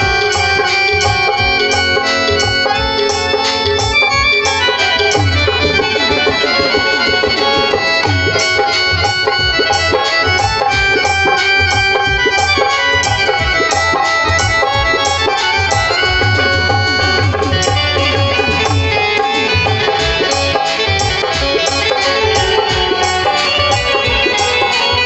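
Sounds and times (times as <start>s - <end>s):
electronic keyboard notes: 0.0s - 25.0s
hand drum beating: 0.0s - 25.0s
harmonium sustained notes: 0.0s - 25.0s.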